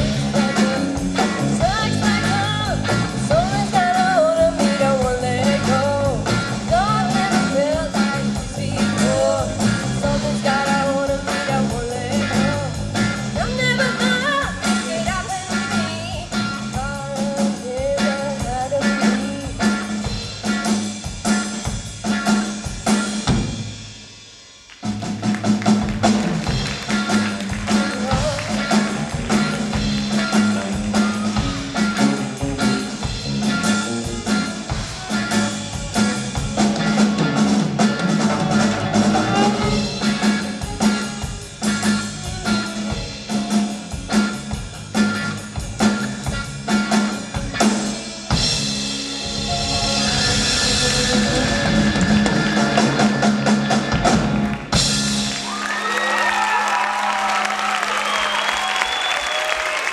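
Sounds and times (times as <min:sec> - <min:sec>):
bending lead guitar melody: 0:00.0 - 0:23.9, 0:25.3 - 0:55.8
live rock band playing: 0:00.0 - 0:59.9.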